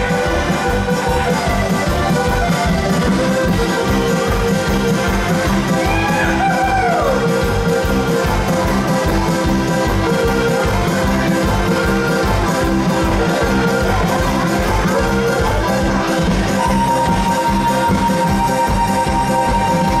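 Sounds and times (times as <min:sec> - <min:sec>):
accordion tune: 0:00.0 - 0:20.0.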